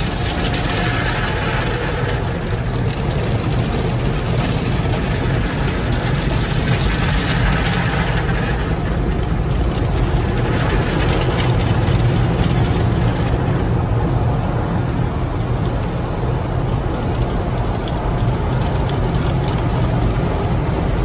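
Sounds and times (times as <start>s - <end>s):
car wash rushing noise: 0.0s - 21.0s
low machinery hum: 0.0s - 21.0s.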